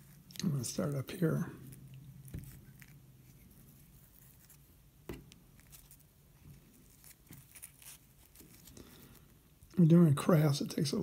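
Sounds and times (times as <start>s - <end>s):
faint rustling of string: 0.0s - 9.8s.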